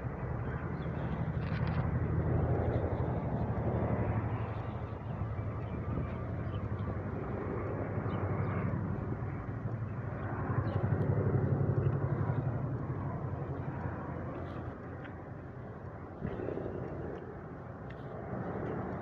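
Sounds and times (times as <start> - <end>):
helicopter rotors beating: 0.0 - 19.0.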